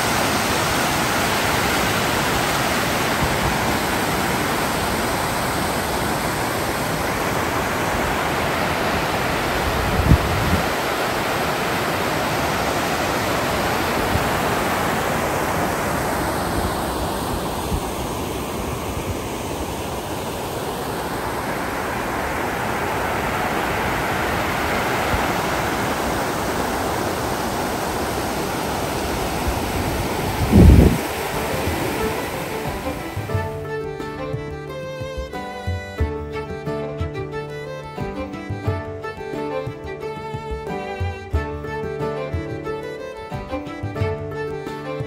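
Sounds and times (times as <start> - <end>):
falling water rushing: 0.0 - 45.0.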